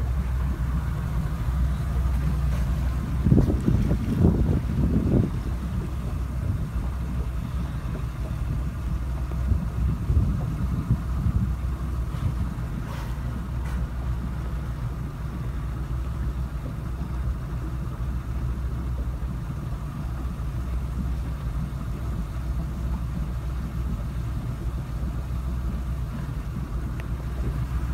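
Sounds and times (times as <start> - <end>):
boat engine humming: 0.0 - 27.9.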